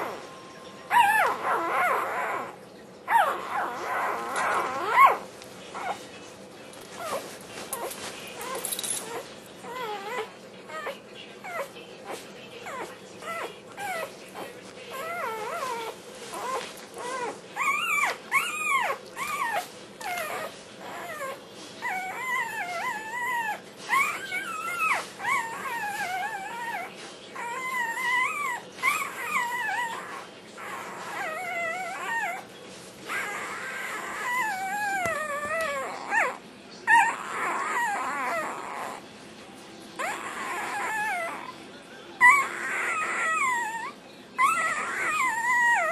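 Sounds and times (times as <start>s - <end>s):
puppy whining and yodelling: 0.0s - 6.0s, 6.9s - 11.8s, 12.6s - 39.1s, 40.0s - 41.6s, 42.2s - 45.9s.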